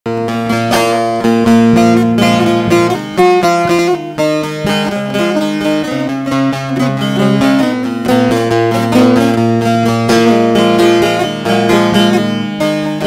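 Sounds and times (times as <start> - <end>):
plucked long-necked lute: 0.1 - 13.0.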